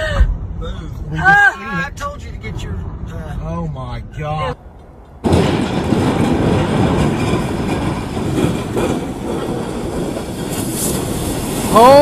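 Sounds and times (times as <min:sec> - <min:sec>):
train rumble: 0:01.9 - 0:12.0.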